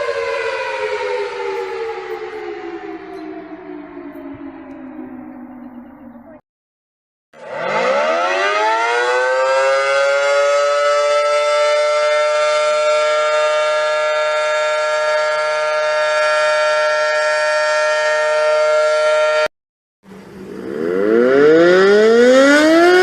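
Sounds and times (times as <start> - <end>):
civil defense siren: 0.0 - 6.4, 7.4 - 23.0.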